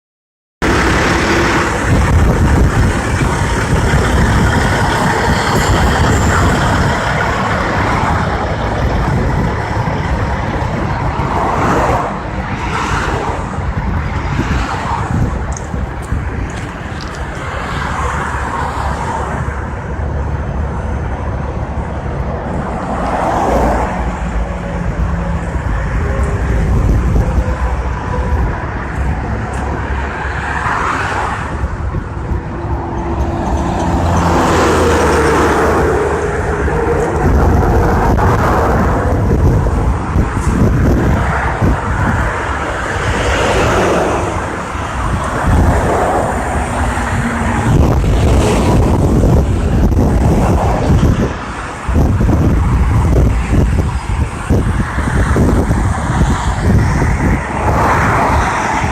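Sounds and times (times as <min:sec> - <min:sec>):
heavy diesel engine running: 0:00.6 - 0:12.6, 0:15.0 - 0:30.6, 0:31.4 - 0:58.9.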